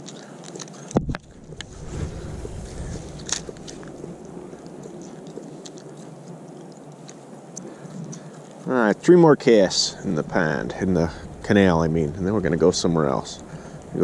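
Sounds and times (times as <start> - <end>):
wind rumbling on microphone: 0.9 - 8.3, 9.5 - 14.0.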